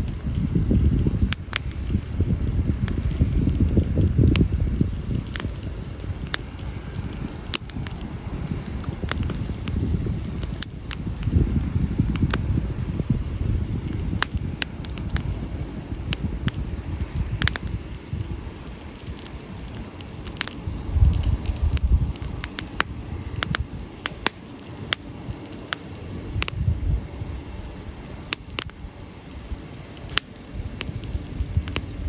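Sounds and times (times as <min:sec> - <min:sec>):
campfire crackling and popping: 0:00.0 - 0:32.0
low fire rumble: 0:00.0 - 0:32.0.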